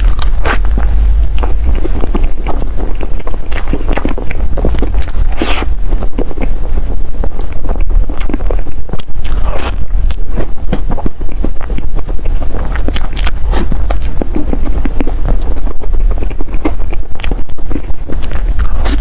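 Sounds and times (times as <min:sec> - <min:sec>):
mouth clicks and smacks: 0:00.0 - 0:19.0
person chewing: 0:00.0 - 0:19.0
steady low rumble: 0:00.0 - 0:19.0.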